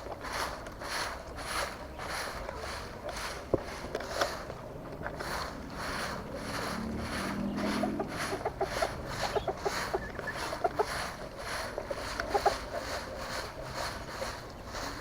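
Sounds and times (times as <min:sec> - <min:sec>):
chickens clucking: 0:00.0 - 0:15.0
pulsing hiss: 0:00.0 - 0:15.0.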